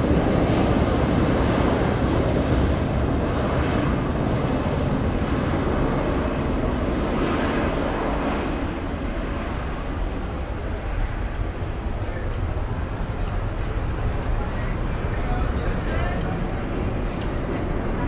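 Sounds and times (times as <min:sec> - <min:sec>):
jet engines at takeoff thrust: 0:00.0 - 0:18.0.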